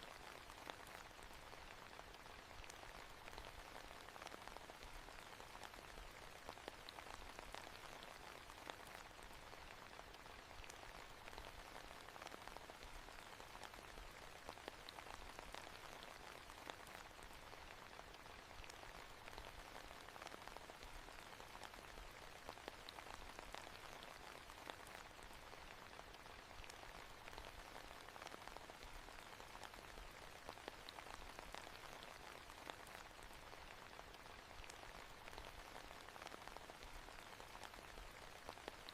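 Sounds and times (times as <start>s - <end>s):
rain hiss: 0.0s - 38.9s
raindrop ticks: 0.0s - 38.9s.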